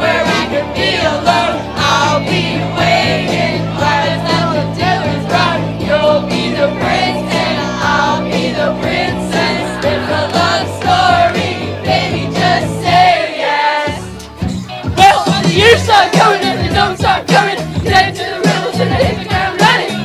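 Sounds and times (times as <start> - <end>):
backing track with bass: 0.0 - 20.0
young voices singing pop song: 0.0 - 20.0.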